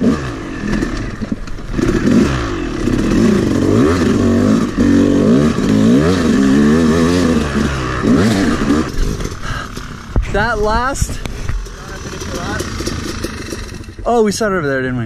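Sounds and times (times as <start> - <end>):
two-stroke engine revving: 0.0 - 14.5.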